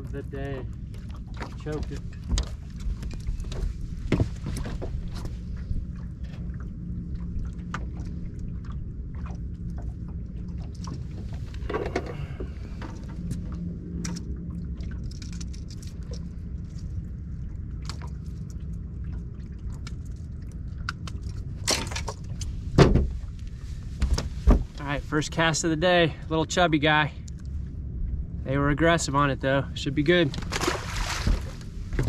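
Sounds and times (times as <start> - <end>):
water around a boat: 0.0 - 32.0
wind: 0.0 - 32.0.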